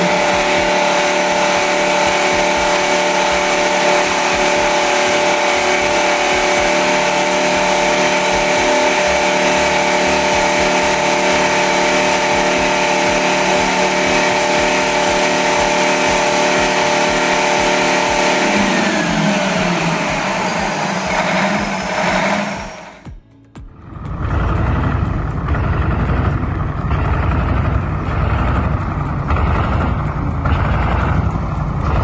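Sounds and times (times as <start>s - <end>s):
old engine running: 0.0s - 32.0s.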